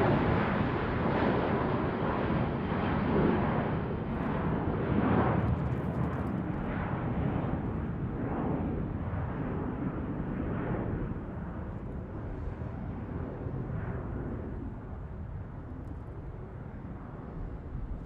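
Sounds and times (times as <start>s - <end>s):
airplane flying overhead: 0.0s - 18.0s.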